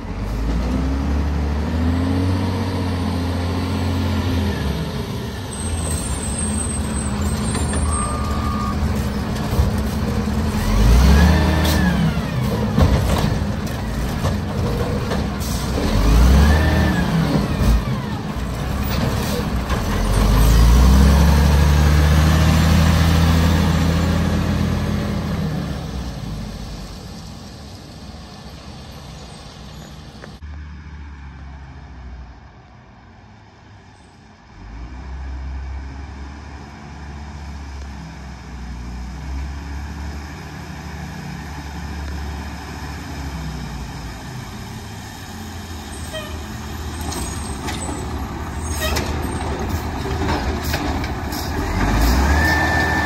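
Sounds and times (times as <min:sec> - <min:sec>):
garbage truck diesel engine: 0:00.0 - 0:32.5, 0:34.4 - 0:53.0.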